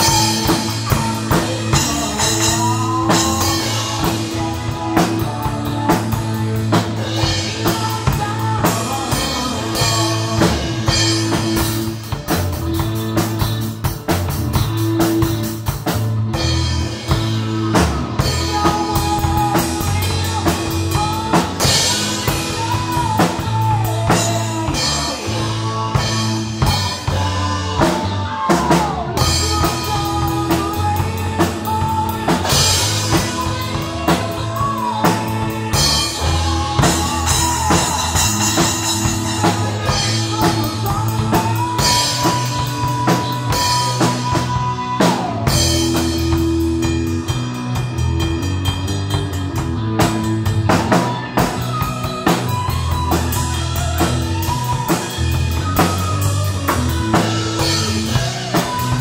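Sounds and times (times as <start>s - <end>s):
drum kit playing rock beat: 0.0s - 59.0s
recorded rock song: 0.0s - 59.0s.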